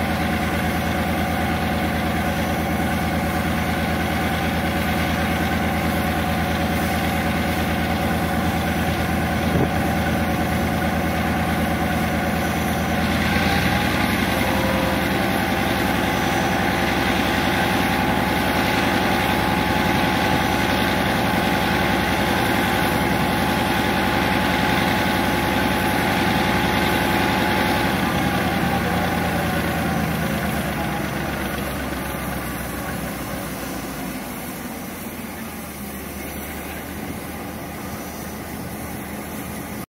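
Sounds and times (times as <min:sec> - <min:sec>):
diesel locomotive engine idling: 0:00.0 - 0:39.9
hiss with higher tone: 0:00.0 - 0:39.9.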